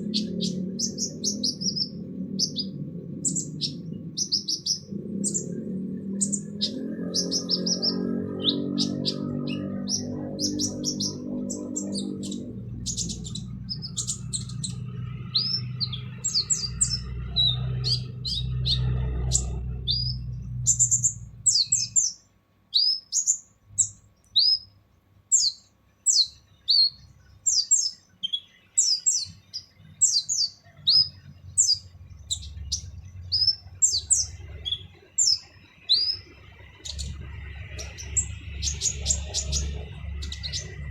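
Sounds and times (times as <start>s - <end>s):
low hum: 0.0s - 28.1s, 28.8s - 40.9s
sunbird chirping and trilling: 0.0s - 40.9s.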